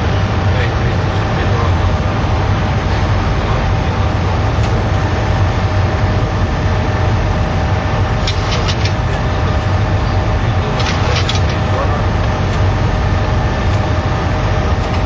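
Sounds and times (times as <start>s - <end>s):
faint whining tones: 0.0s - 15.0s
jet engine rumble: 0.0s - 15.0s.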